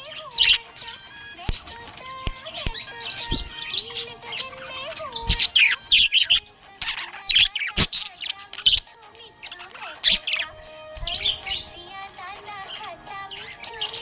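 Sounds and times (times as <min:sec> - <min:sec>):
budgerigar chirping and warbling: 0:00.0 - 0:14.0
soft background melody: 0:00.0 - 0:14.0.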